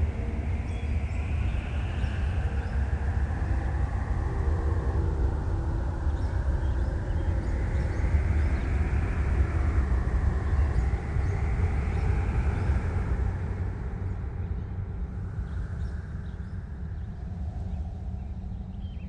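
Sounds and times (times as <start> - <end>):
low rumbling ambient noise: 0.0 - 19.0.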